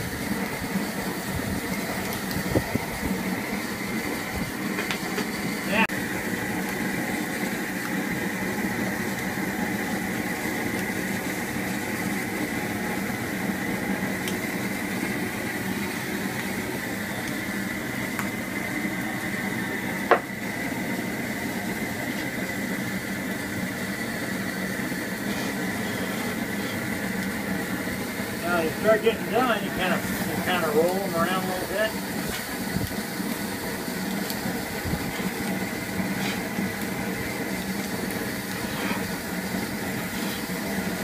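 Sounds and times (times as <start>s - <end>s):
gas burner roaring: 0.0s - 41.0s
shrimp searing in skillet: 0.0s - 41.0s.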